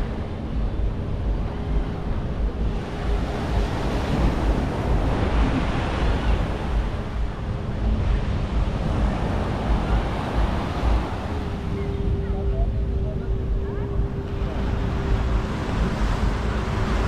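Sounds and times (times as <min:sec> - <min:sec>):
sea surf washing on beach: 0:00.0 - 0:17.0
wind buffeting microphone: 0:00.0 - 0:17.0.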